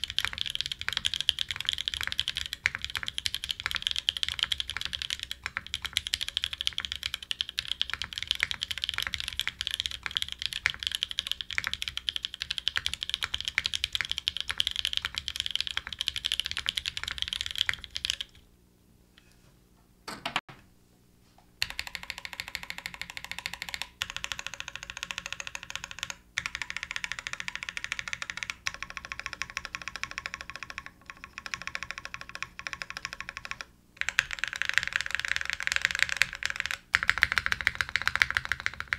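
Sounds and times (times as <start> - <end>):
fast typing on mechanical keyboard: 0.0 - 18.4, 21.6 - 38.9.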